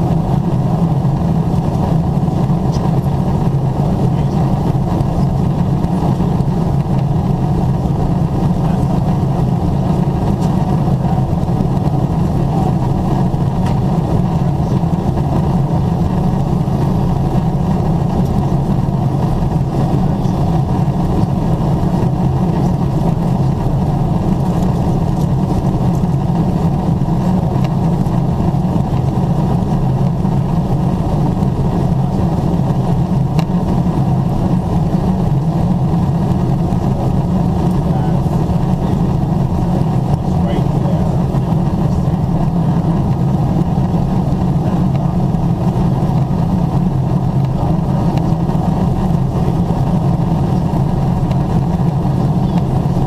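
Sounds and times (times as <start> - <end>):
airplane cabin roar: 0.0 - 53.0.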